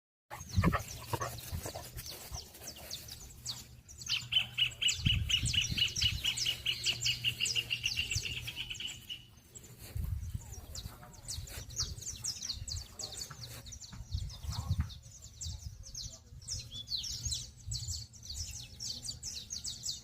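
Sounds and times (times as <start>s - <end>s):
songbirds chirping: 0.3s - 20.0s.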